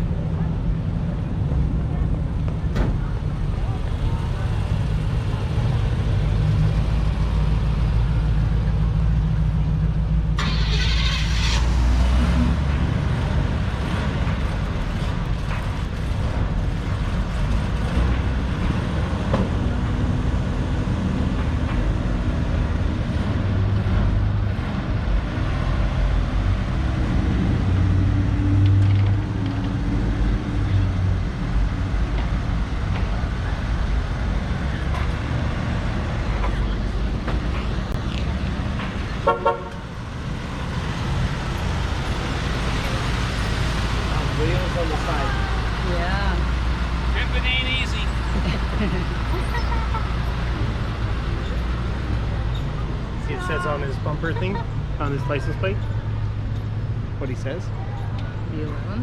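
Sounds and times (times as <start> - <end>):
car engines rumbling past: 0.0 - 59.0.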